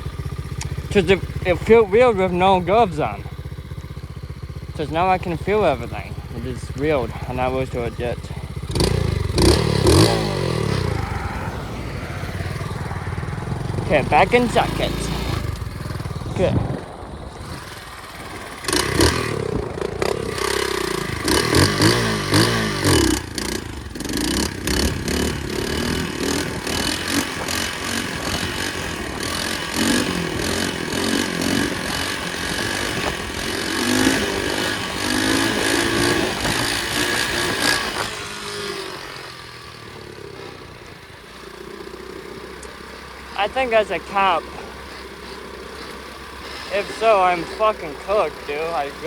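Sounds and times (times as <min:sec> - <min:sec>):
pit bike engine revving: 0:00.0 - 0:49.0.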